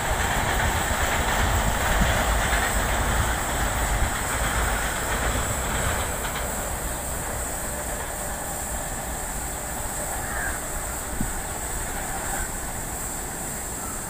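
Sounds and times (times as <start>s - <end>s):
train wagons rolling on track: 0.0s - 14.0s.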